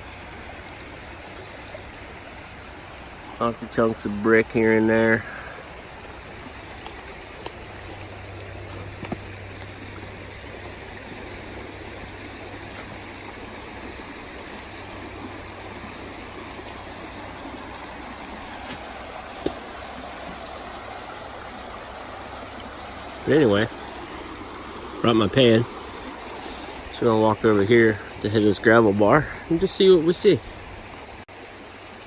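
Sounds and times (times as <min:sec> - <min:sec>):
creek running over rocks: 0:00.0 - 0:32.0.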